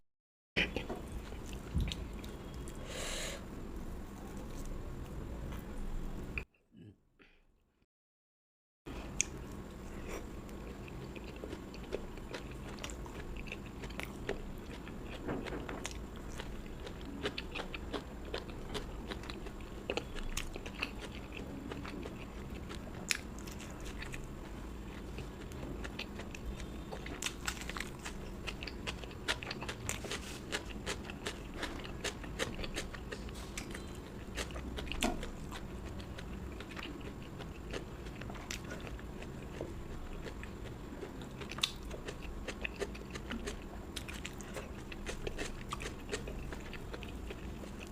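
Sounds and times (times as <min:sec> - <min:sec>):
person chewing with crunches: 0:00.6 - 0:02.9, 0:09.0 - 0:47.9.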